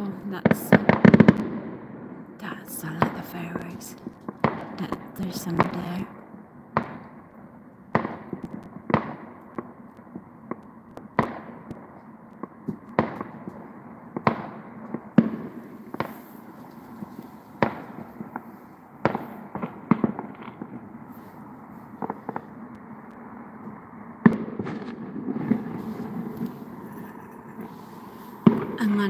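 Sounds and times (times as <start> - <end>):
distant fireworks bangs: 0.0 - 29.0.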